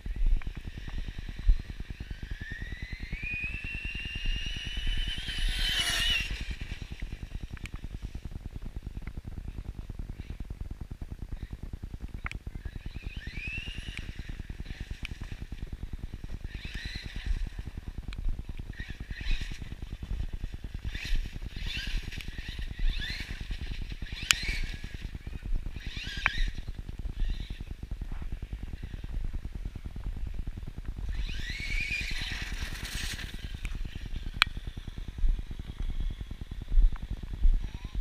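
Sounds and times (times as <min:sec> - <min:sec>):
fast low fluttering: 0:00.0 - 0:38.0
electric motor whining: 0:00.1 - 0:07.9, 0:12.7 - 0:38.0.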